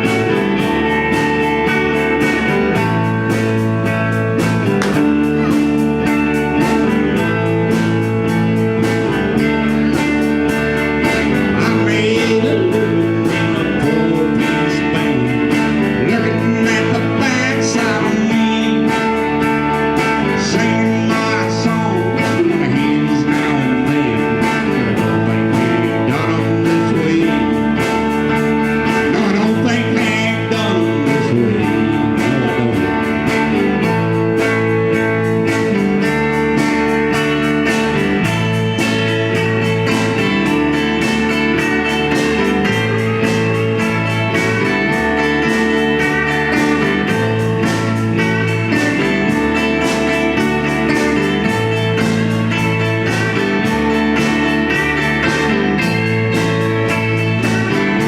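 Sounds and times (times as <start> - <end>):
band playing guitar song: 0.0 - 58.0.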